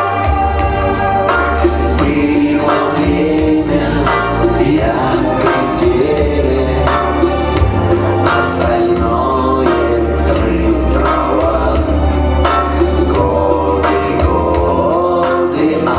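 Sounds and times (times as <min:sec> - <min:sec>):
live band playing: 0:00.0 - 0:15.9
voices singing: 0:01.4 - 0:15.9.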